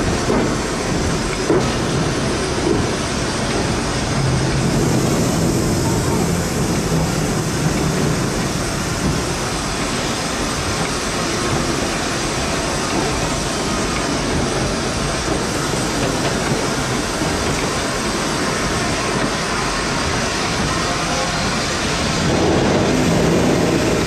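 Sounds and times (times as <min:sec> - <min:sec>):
steam locomotive rumble and clatter: 0:00.0 - 0:24.0.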